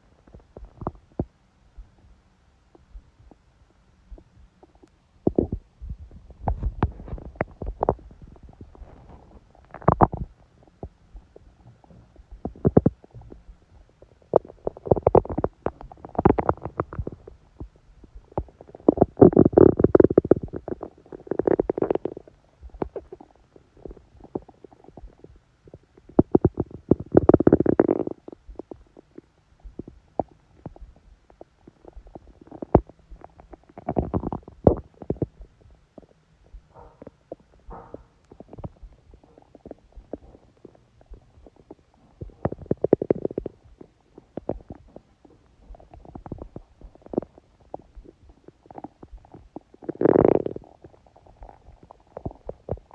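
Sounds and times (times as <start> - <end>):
stomach growling and gurgling: 0.0 - 2.1, 2.7 - 52.9.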